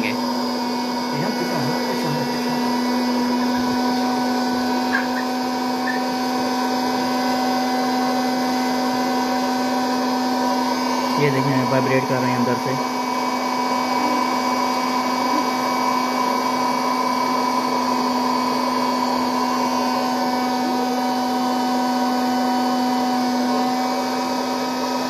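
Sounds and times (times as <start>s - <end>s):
popcorn maker fan whirring: 0.0s - 25.0s.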